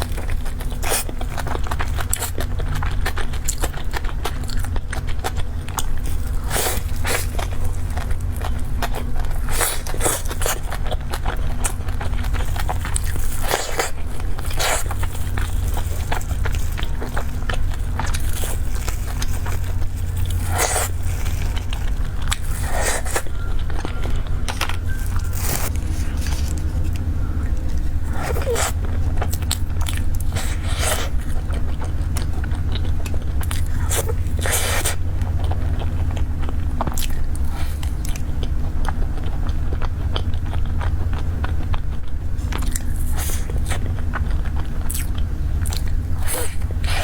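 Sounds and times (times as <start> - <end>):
eating bites and crunches: 0.0 - 47.0
steady low hum: 0.0 - 47.0.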